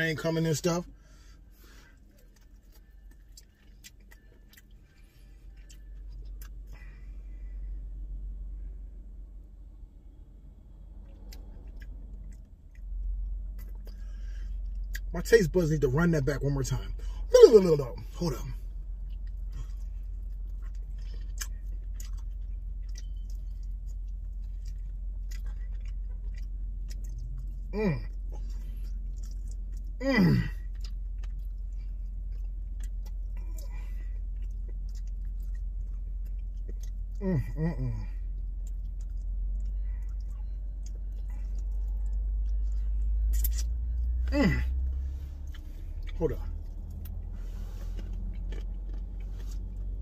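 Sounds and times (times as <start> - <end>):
steady low hum: 0.0 - 50.0
person chewing: 1.2 - 8.2, 10.9 - 16.0, 16.6 - 50.0.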